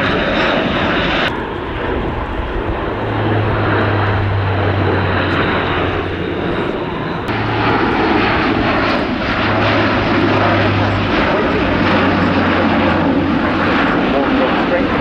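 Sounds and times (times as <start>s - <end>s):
turboprop aircraft droning overhead: 0.0s - 15.0s.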